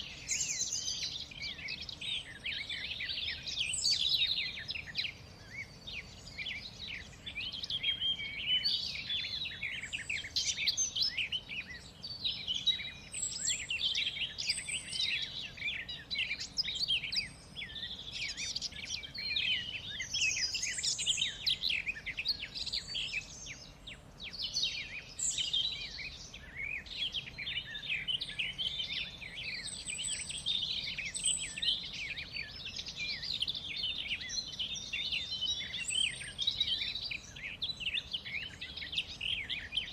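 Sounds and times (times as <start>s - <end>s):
songbirds chorus: 0.0s - 39.9s.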